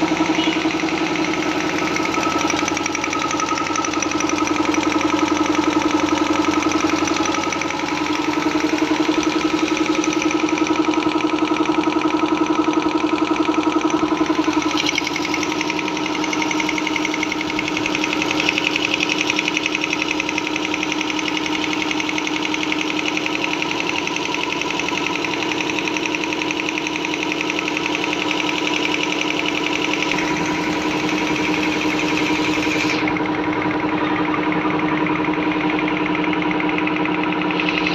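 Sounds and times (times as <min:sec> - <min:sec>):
air compressor knocking: 0:00.0 - 0:37.9.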